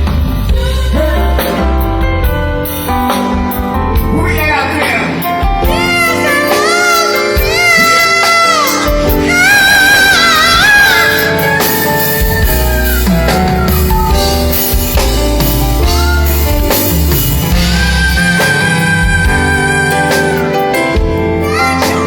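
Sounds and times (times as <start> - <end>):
music with bass and drums: 0.0 - 22.0
person singing with vibrato: 0.3 - 2.2, 5.2 - 14.8, 15.8 - 22.0.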